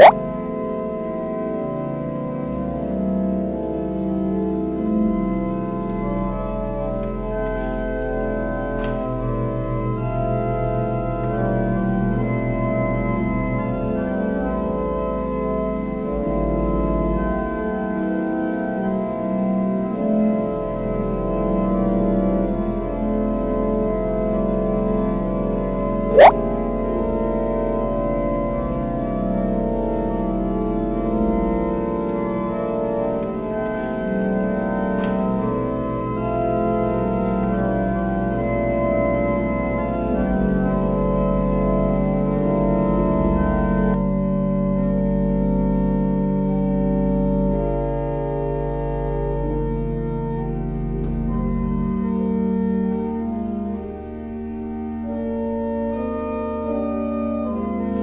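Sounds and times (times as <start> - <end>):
organ chords: 0.0 - 58.0.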